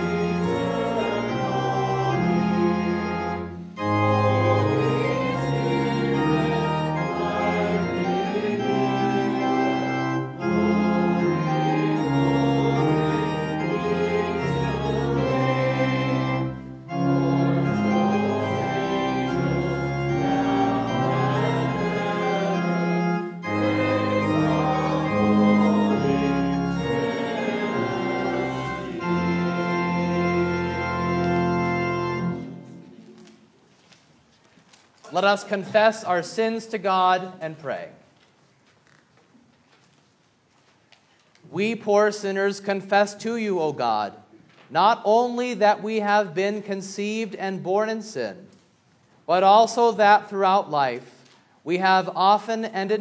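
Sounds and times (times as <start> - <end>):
organ playing a hymn: 0.0 - 33.4, 41.5 - 48.4, 49.3 - 53.0.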